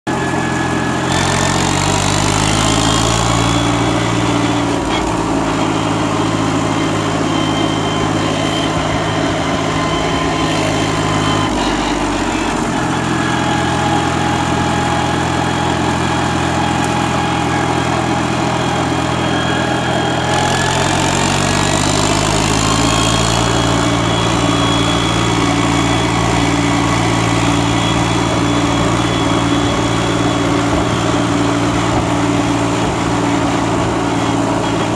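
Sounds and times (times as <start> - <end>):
diesel engine revving under load: 0.1 - 34.9.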